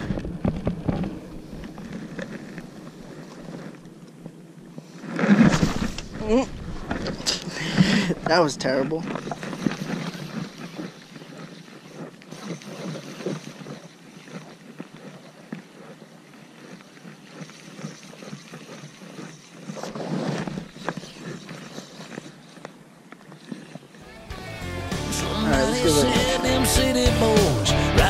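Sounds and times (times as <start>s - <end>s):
water lapping against rocks: 0.0s - 24.1s.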